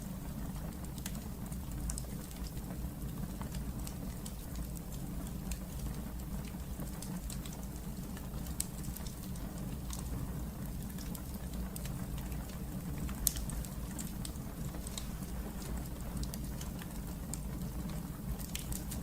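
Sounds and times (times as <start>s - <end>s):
wood fire crackling in fireplace: 0.0s - 19.0s.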